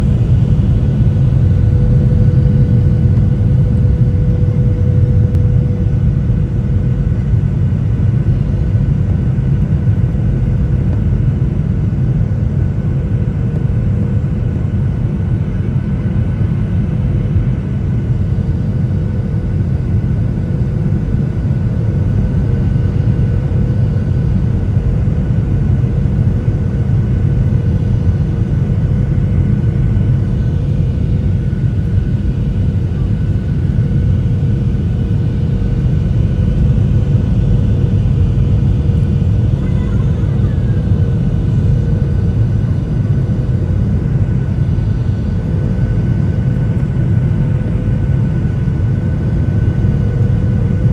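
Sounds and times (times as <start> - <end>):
faint humming tone: 0.0 - 11.5, 13.5 - 50.9
airplane engine rumble: 0.0 - 50.9.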